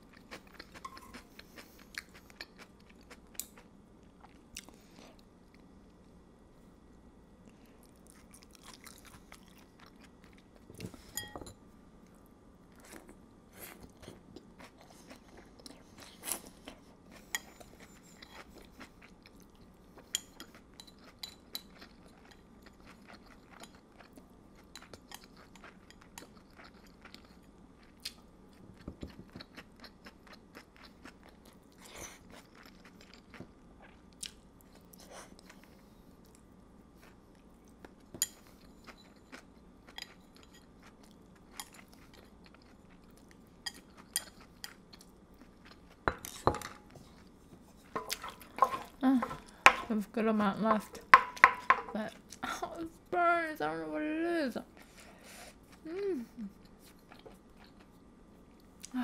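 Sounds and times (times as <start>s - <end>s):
chewing and crunching food: 0.0s - 6.1s, 7.4s - 11.2s, 12.0s - 52.5s, 54.6s - 59.0s.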